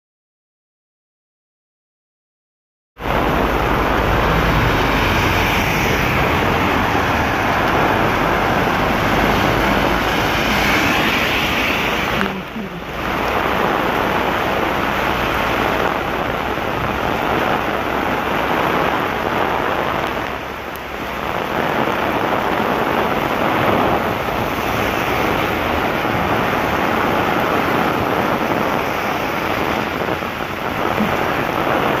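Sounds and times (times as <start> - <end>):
heavy rain pouring: 3.0 - 32.0.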